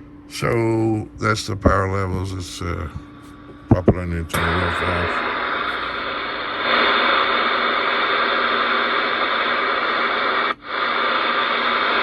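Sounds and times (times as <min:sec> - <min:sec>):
radio static hiss: 0:00.3 - 0:12.0.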